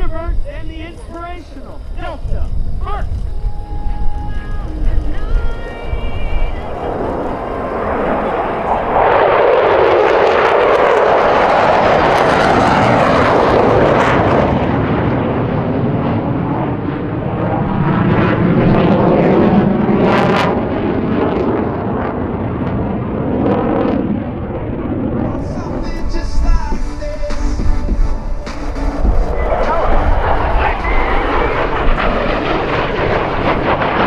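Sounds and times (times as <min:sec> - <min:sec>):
fighter jets flying past: 0:00.0 - 0:34.0.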